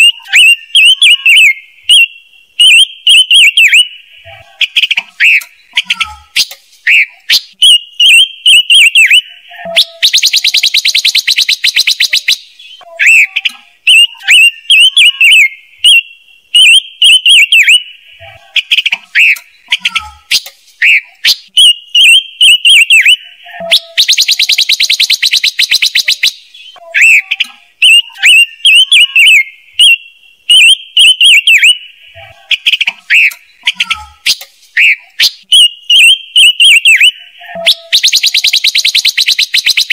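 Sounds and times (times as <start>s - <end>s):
fast bird trill: 0.0s - 17.9s, 18.5s - 39.9s
bird whistled song: 0.0s - 39.9s.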